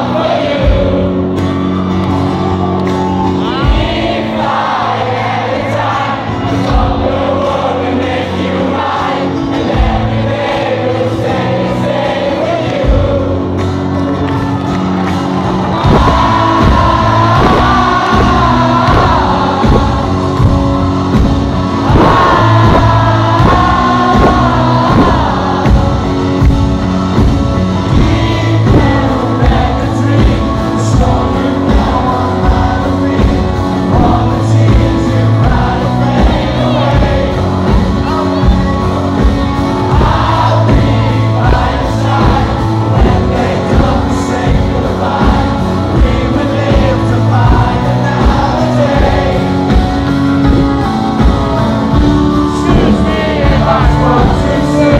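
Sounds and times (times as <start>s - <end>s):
man singing lead vocal: 0.0s - 1.6s, 3.3s - 13.7s, 15.7s - 26.5s, 27.7s - 54.9s
live rock band playing: 0.0s - 54.9s.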